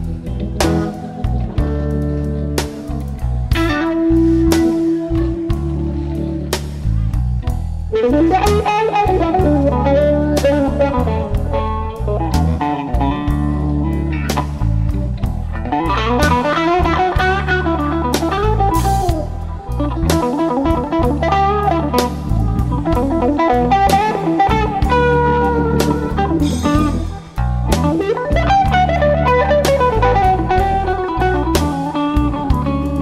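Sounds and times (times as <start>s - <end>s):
bass: 0.0s - 33.0s
blues electric guitar: 0.0s - 33.0s
drum kit: 0.0s - 33.0s.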